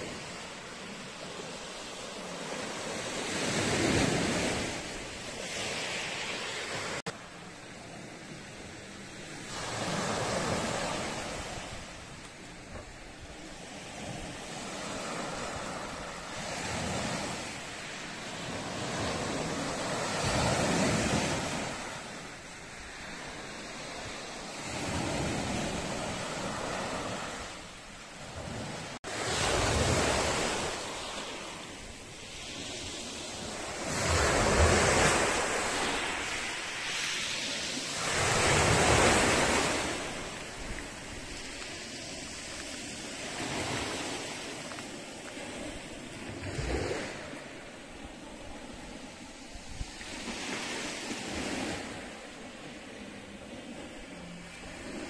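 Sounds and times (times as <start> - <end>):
waves breaking on the shore: 0.0 - 55.0.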